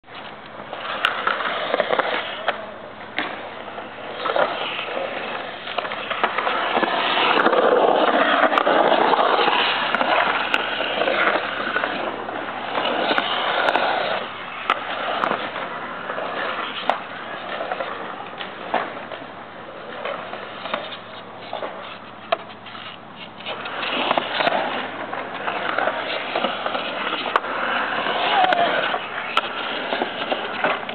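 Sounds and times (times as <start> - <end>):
skateboard clacks: 0.0 - 30.9
skateboard wheels rolling on concrete: 0.0 - 30.9.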